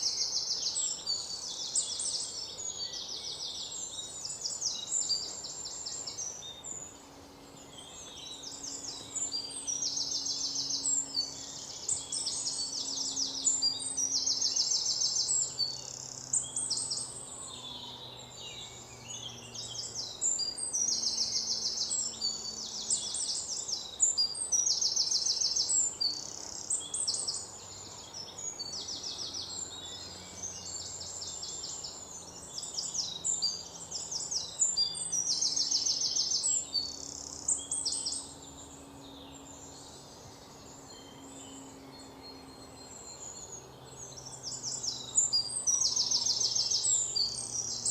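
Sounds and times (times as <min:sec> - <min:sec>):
birds singing trilled phrases: 0:00.0 - 0:47.9.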